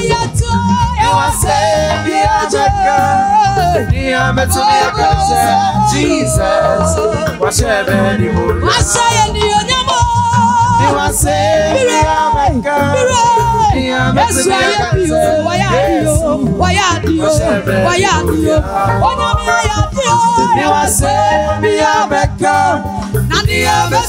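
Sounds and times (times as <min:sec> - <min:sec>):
woman singing: 0:00.0 - 0:07.4, 0:08.6 - 0:22.6
conga drums: 0:00.0 - 0:24.0
live band playing: 0:00.0 - 0:24.0.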